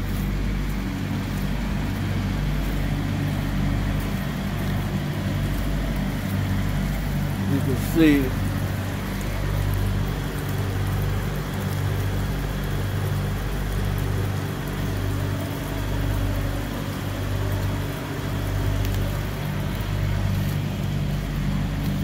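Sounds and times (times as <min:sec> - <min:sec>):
rain falling: 0:00.0 - 0:22.0
truck engine idling: 0:00.0 - 0:22.0.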